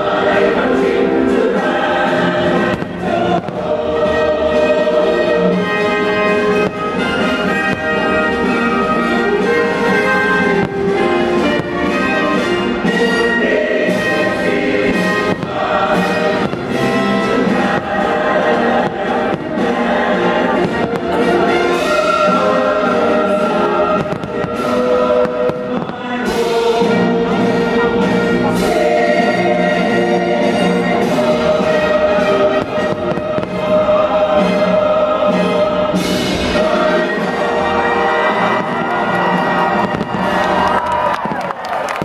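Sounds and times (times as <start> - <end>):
singing: 0.0 - 10.6, 11.4 - 42.0
fireworks bursting: 0.0 - 42.0
orchestral show music: 0.0 - 42.0.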